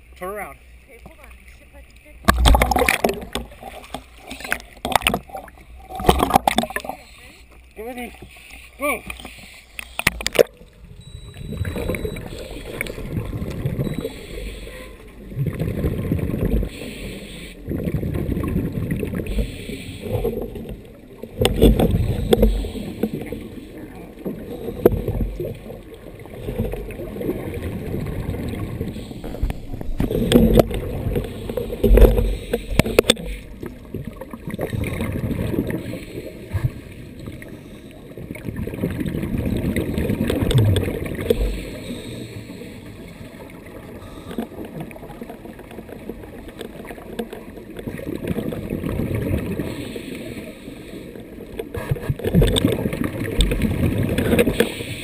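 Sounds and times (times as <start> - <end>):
underwater bubbles gurgling: 1.0 - 55.0.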